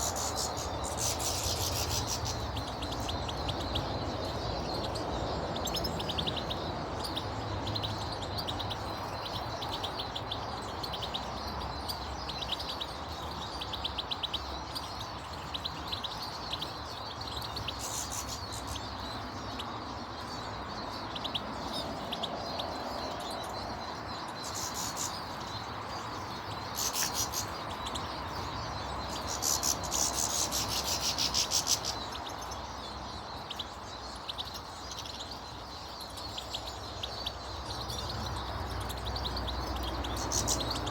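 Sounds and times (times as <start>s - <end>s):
harsh bird chatter: 0.0s - 40.9s
small birds chirping: 0.0s - 40.9s.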